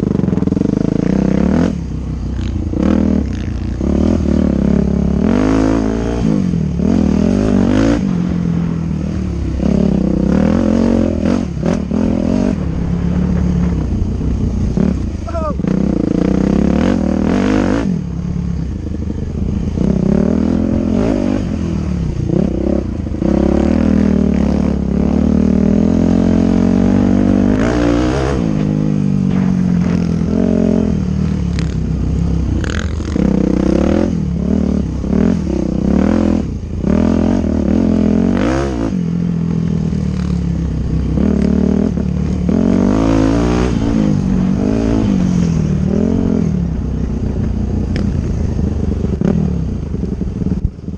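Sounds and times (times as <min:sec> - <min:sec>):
dirt bike engine revving: 0:00.0 - 0:50.7.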